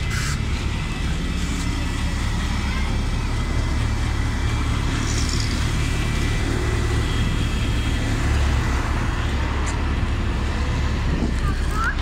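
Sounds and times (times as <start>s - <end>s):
bus engine rumbling: 0.0s - 12.0s
road traffic: 0.0s - 12.0s.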